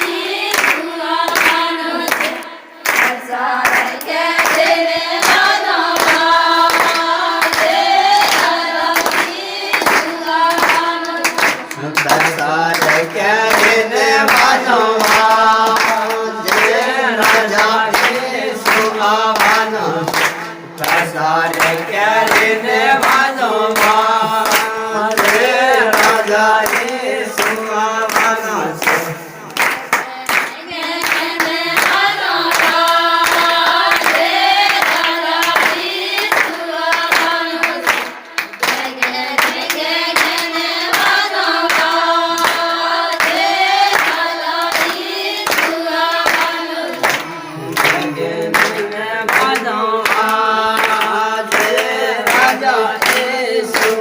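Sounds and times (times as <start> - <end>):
group singing in chorus: 0.0 - 54.0
rhythmic hand-clapping: 0.0 - 54.0.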